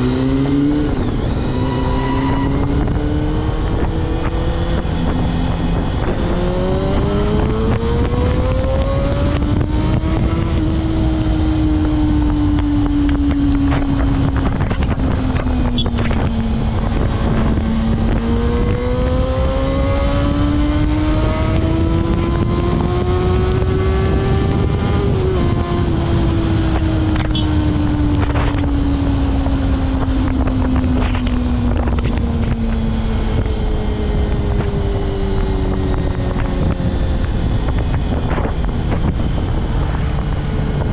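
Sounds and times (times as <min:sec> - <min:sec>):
motorcycle engine at high revs: 0:00.0 - 0:40.9
wind rushing on microphone: 0:00.0 - 0:40.9.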